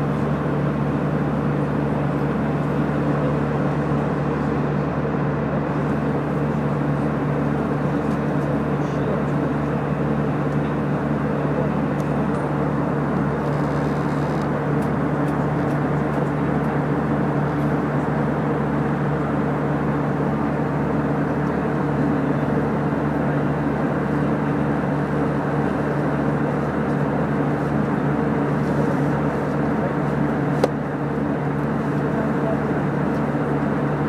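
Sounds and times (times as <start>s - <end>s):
airliner cabin noise: 0.0s - 34.0s.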